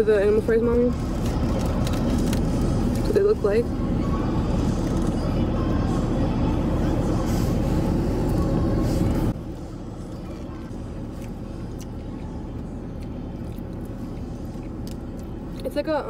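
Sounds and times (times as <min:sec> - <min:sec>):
car idling rumble: 0:00.0 - 0:16.0.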